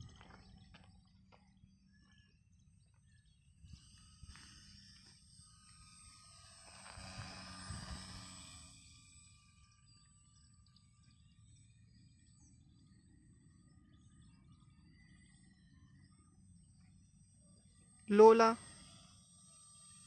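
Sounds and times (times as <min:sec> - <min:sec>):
model airplane motor and propeller: 0:00.0 - 0:20.0.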